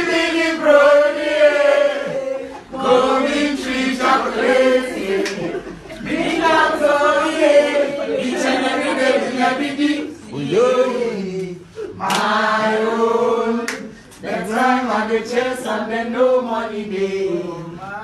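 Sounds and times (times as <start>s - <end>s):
voices singing a chant: 0.0s - 18.0s.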